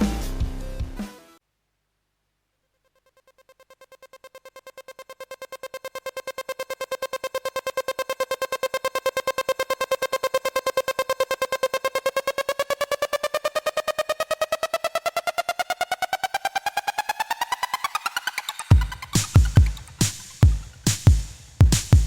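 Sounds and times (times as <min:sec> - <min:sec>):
pulsing synthesizer note: 0:03.2 - 0:20.9.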